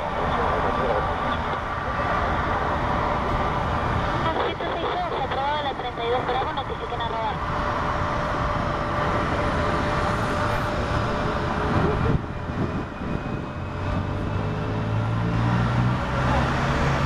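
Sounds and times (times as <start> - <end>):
jet engines rushing with faint whine: 0.0 - 17.0.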